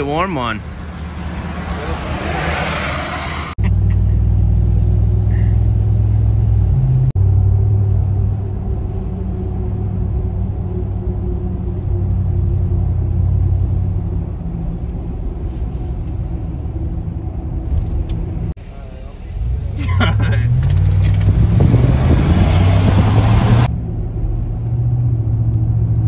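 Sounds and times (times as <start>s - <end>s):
truck driving rumble from inside: 0.0s - 26.0s.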